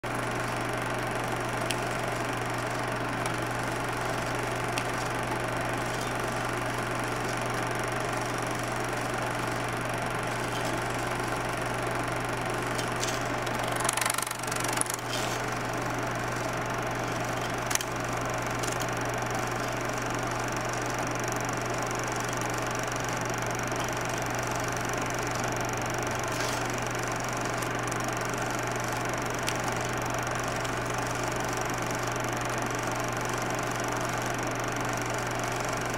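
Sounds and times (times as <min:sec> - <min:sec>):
film projector whirring: 0:00.0 - 0:35.9.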